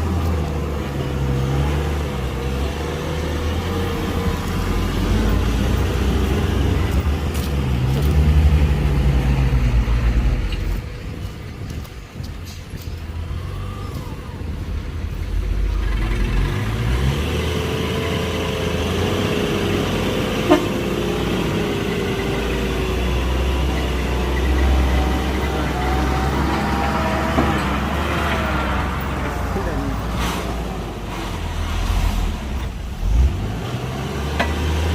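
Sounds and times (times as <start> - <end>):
heavy diesel engines: 0.0 - 34.9.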